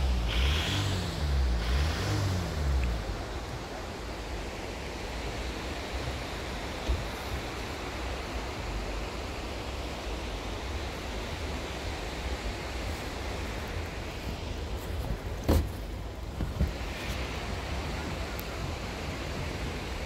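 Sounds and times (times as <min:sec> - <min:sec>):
river rushing over rocks: 0:00.2 - 0:20.0.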